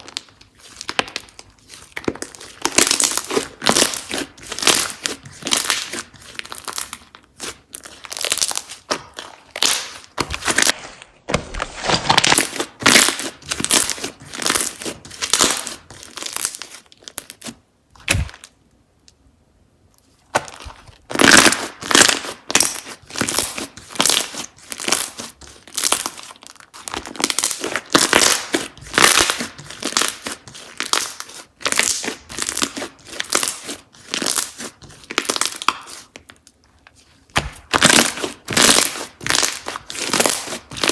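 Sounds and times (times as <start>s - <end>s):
slime squished by hand: 0.0s - 18.5s, 20.0s - 40.9s.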